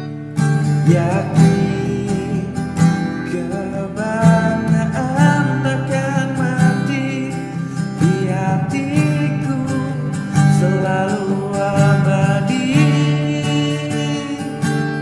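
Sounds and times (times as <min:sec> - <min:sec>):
guitar: 0:00.0 - 0:15.0
person singing: 0:00.8 - 0:15.0.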